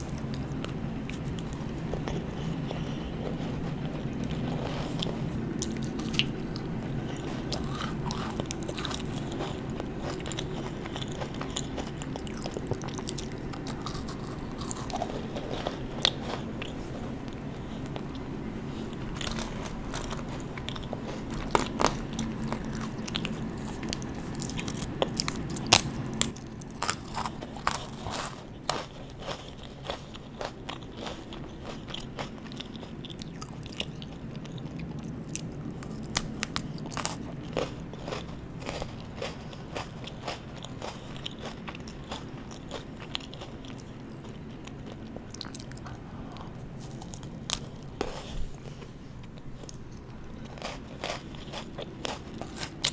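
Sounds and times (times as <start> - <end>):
crunching biscuit sticks: 0.0 - 52.9.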